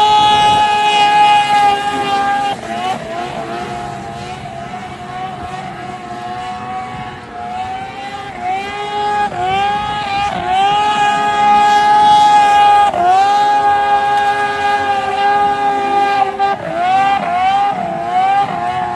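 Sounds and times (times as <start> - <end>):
snowmobile engine high revs: 0.0 - 18.9.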